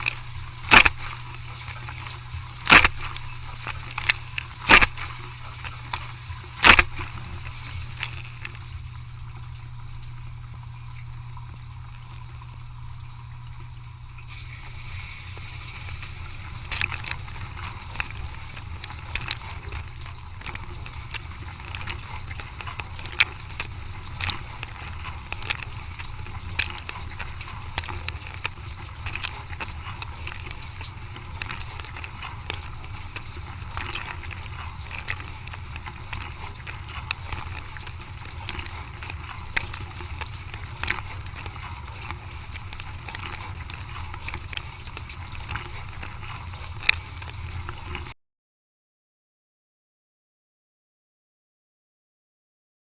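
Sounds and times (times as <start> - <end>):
water spraying and splashing: 0.0 - 48.1
dishwasher pump hum: 0.0 - 48.2.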